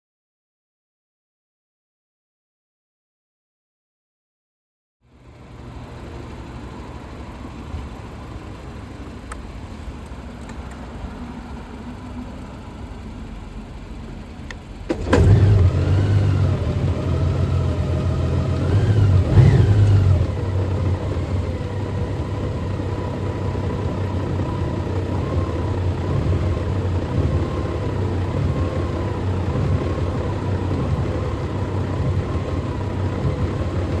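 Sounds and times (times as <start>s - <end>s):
motorcycle engine starting and idling: 5.2s - 34.0s.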